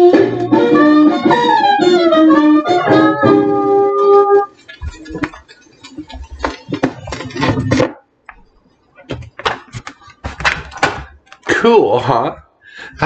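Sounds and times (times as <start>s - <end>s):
old record music: 0.0s - 11.4s.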